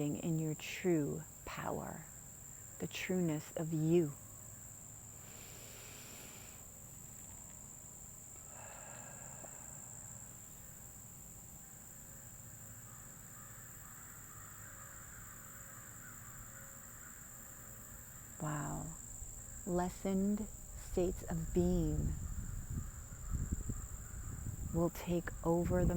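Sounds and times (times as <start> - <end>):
crickets trilling: 0.0 - 25.9.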